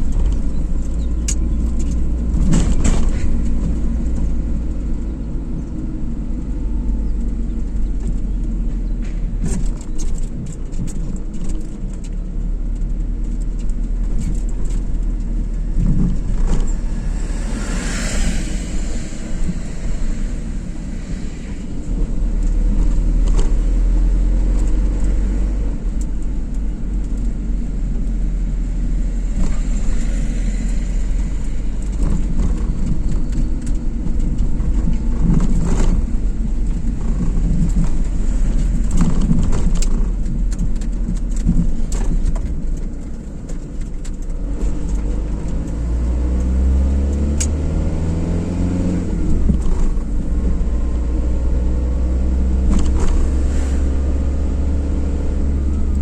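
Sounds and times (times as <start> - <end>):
car engine: 0.0 - 56.0
road rumble: 0.0 - 56.0.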